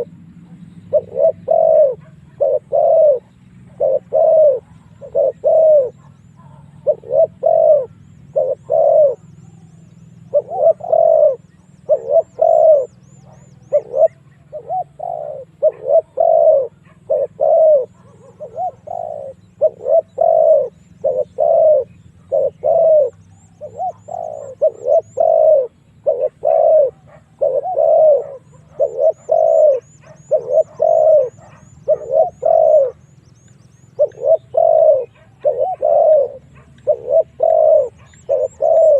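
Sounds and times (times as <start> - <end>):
dove cooing: 0.0 - 38.9
faint high-pitched chirping: 0.0 - 38.9.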